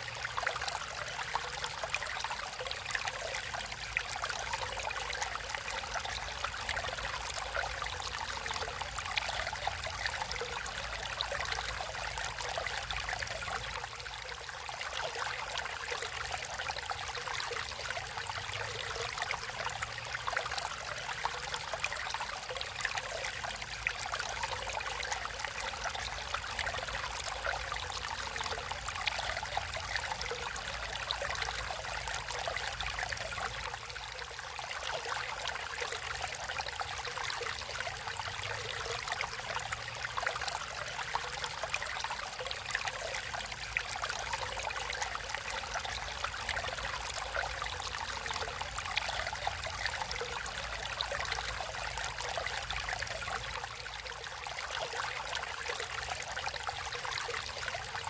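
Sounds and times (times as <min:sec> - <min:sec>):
stream of water babbling: 0:00.0 - 0:58.0.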